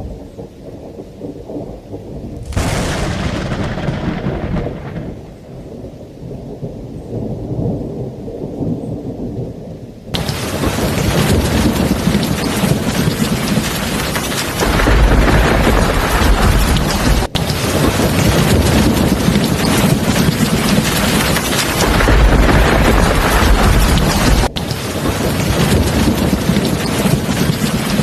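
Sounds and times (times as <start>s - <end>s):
sharp thunder crack: 0.0s - 9.5s, 10.1s - 28.0s
heavy rain: 0.0s - 28.0s
thunder rumbling: 0.0s - 28.0s.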